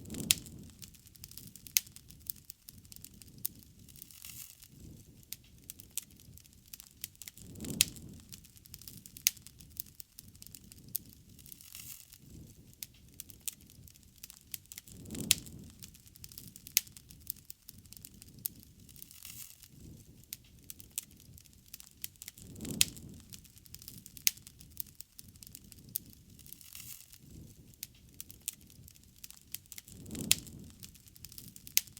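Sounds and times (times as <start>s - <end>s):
bonfire crackling and popping: 0.0s - 31.9s
low rush of flame: 0.0s - 31.9s.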